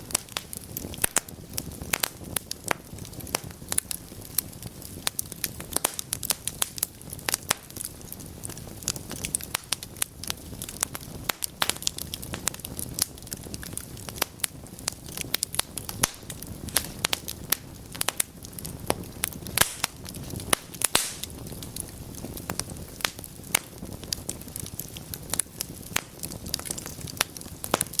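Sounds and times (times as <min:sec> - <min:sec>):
logs crackling and popping: 0:00.0 - 0:28.0
low rush of flame: 0:00.0 - 0:28.0.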